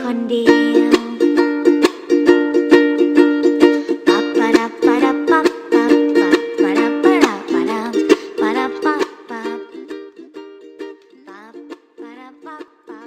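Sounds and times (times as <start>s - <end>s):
instrumental pop love song: 0.0s - 13.0s.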